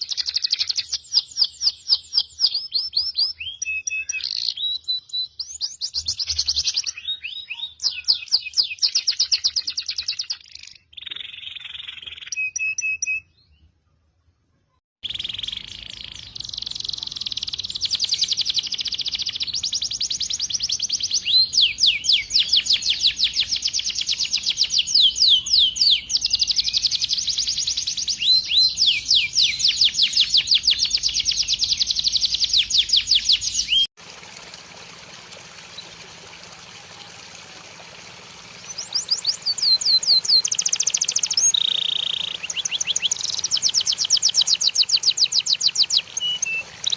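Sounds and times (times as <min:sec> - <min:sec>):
songbird trilling: 0:00.0 - 0:13.3, 0:15.0 - 0:33.9, 0:38.6 - 0:46.9.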